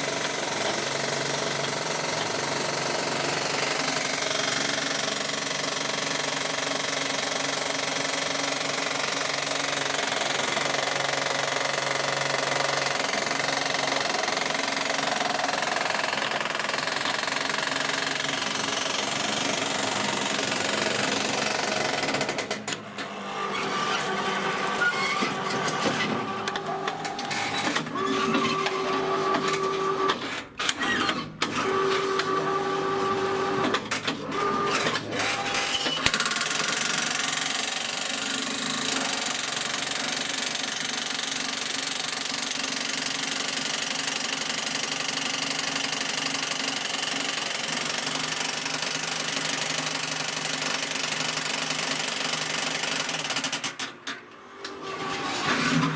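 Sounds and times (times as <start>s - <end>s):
electric jackhammer clattering: 0.0s - 55.9s.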